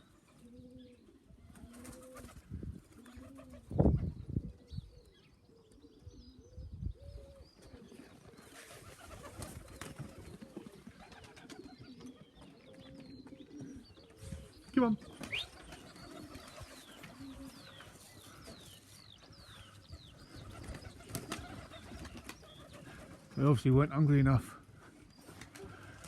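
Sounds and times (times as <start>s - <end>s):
pigeons cooing: 0.0s - 23.6s, 24.4s - 26.0s.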